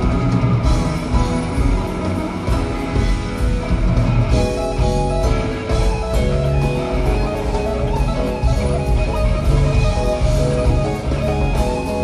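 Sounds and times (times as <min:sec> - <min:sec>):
jazz-rock band playing: 0:00.0 - 0:12.0.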